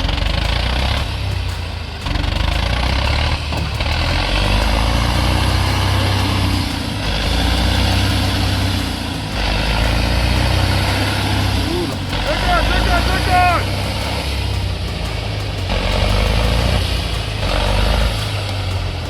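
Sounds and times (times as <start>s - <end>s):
heavy machine engine rumbling: 0.0s - 19.0s.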